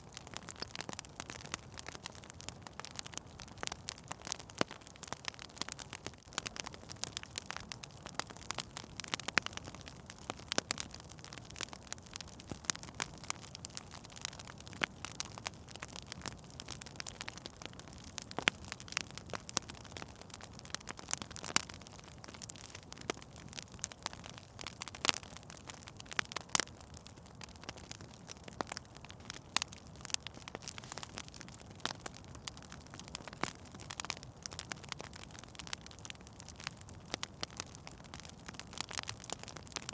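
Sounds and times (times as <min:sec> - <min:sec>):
soft hiss of burning: 0:00.0 - 0:39.9
wood fire crackling and popping: 0:00.0 - 0:39.9.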